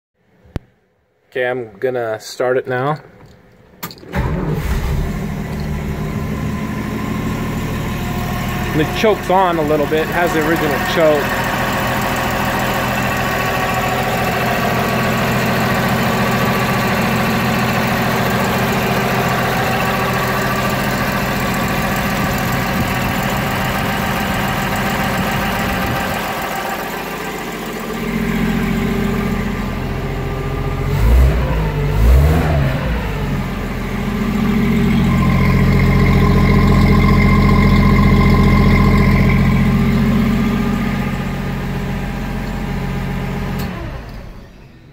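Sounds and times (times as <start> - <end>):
petrol engine idling: 4.1 - 30.9, 32.9 - 44.8.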